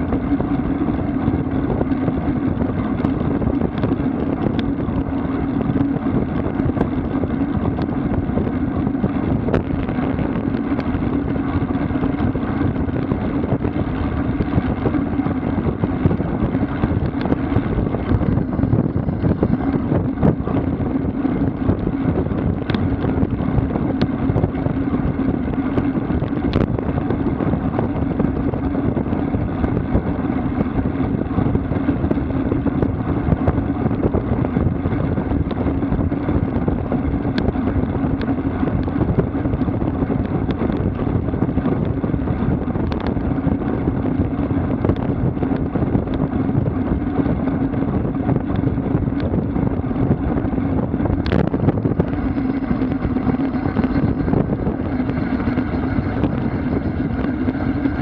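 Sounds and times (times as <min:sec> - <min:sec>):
bicycle road noise: 0:00.0 - 0:58.0
constant low hum: 0:00.0 - 0:58.0
wind rushing over microphone: 0:00.0 - 0:58.0.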